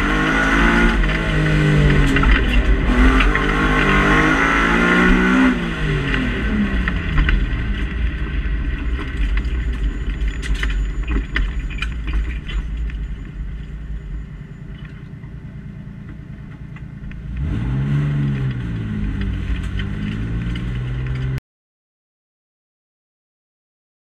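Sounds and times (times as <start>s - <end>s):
car engine from inside cabin: 0.0s - 21.4s.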